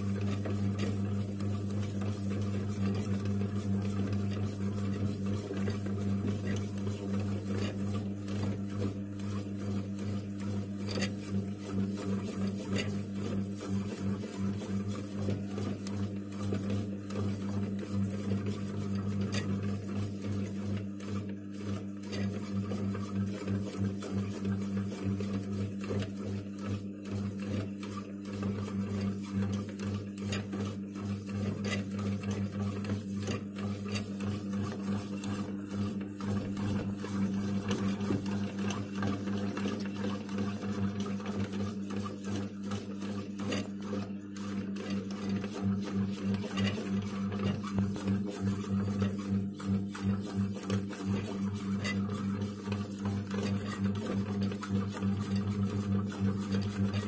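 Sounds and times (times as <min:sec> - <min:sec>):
bread maker motor humming: 0:00.0 - 0:57.0.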